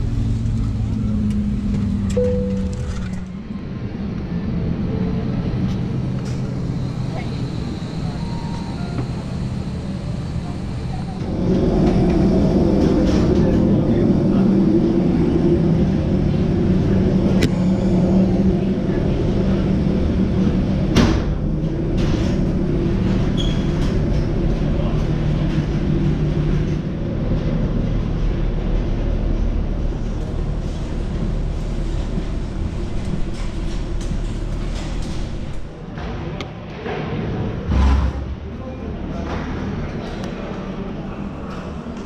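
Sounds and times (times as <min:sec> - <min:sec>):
low machinery drone: 0:00.0 - 0:42.0.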